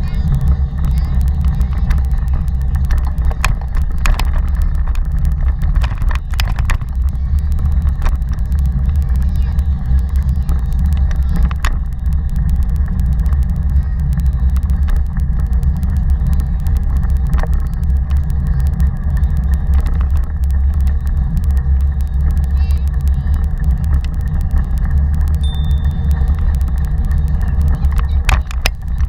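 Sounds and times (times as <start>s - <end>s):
faint ticks: 0.0s - 29.0s
wind and road vibration rumble: 0.0s - 29.0s.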